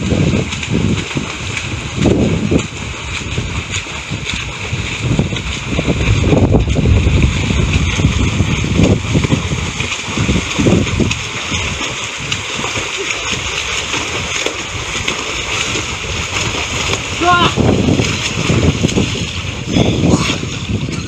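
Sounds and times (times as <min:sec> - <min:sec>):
swimmers splashing: 0:00.0 - 0:21.0.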